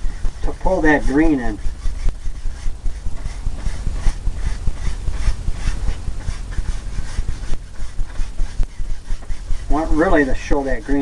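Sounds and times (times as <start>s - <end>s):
paintbrush scrubbing canvas: 0.0s - 11.0s.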